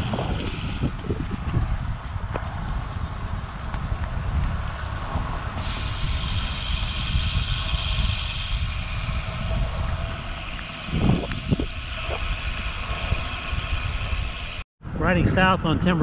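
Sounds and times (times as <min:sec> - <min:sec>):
bicycle tyres on concrete: 0:00.0 - 0:14.7
wind buffeting microphone: 0:00.0 - 0:16.0.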